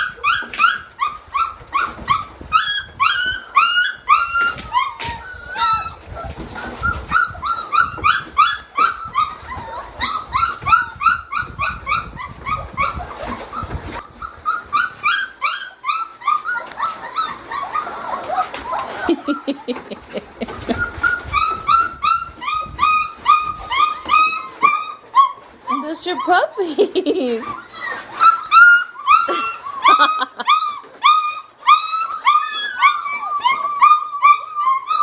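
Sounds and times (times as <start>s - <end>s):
dogs whining and yipping: 0.0s - 35.0s.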